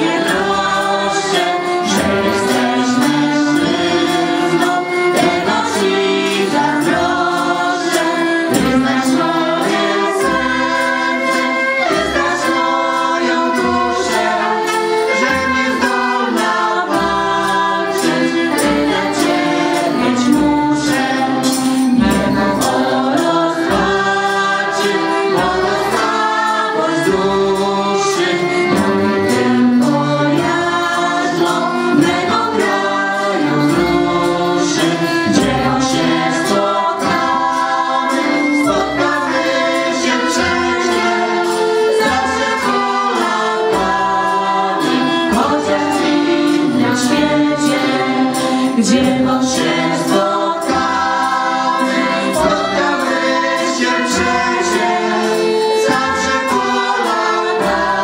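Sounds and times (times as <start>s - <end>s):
accordions: 0.0s - 58.0s
trumpet: 0.0s - 58.0s
women singing folk song: 0.0s - 58.0s.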